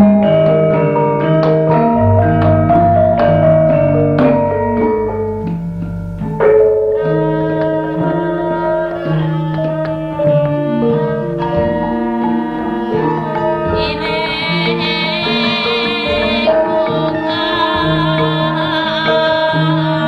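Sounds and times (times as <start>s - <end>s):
metallophone notes ringing: 0.0s - 19.9s
hand drum beats: 0.0s - 20.0s.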